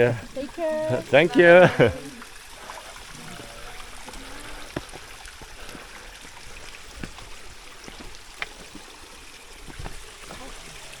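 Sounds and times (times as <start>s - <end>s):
irrigation water trickling: 0.0s - 11.0s.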